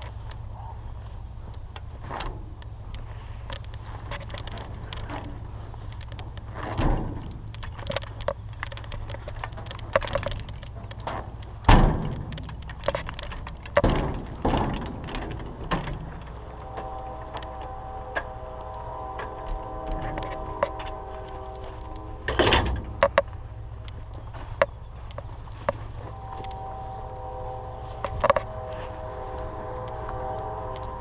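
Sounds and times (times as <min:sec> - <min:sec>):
multi-tone whine: 0:00.0 - 0:31.0
tractor engine running: 0:00.0 - 0:31.0
rattles and clanks: 0:01.4 - 0:31.0.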